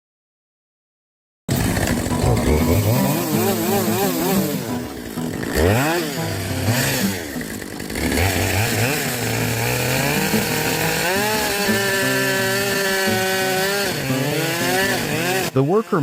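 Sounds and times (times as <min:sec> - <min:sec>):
chainsaw engine revving: 0:01.5 - 0:16.0.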